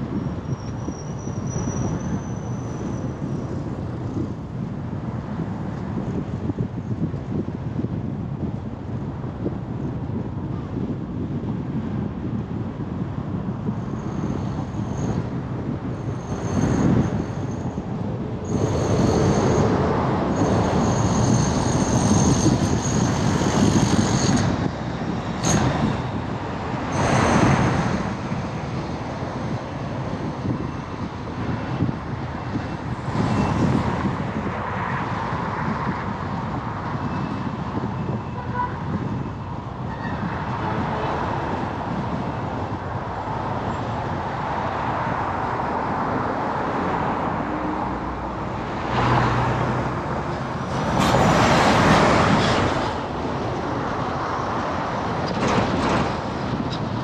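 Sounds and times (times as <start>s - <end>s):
highway traffic rumble: 0.0s - 57.0s
vehicles passing: 1.9s - 57.0s.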